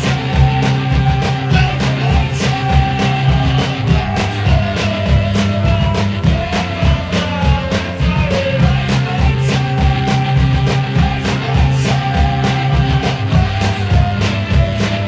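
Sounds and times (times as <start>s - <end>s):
punk rock song: 0.0s - 15.0s.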